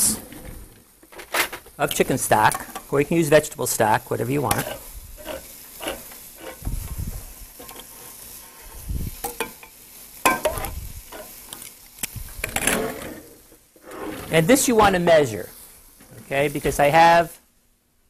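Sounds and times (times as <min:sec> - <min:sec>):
chicken sizzling in a frying pan: 0:01.7 - 0:17.4.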